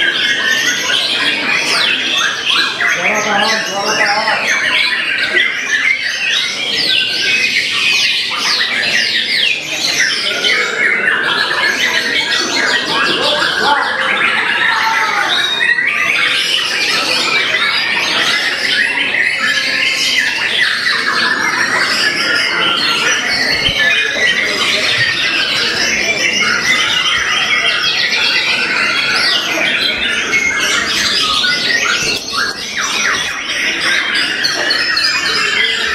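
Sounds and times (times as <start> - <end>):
many songbirds singing: 0.0 - 35.9.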